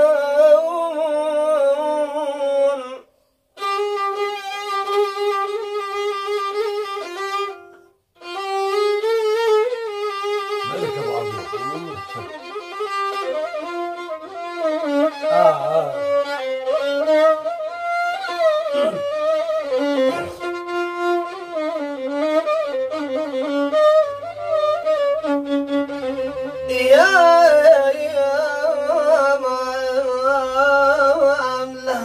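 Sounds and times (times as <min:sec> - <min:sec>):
solo violin melody: 0:00.0 - 0:32.0.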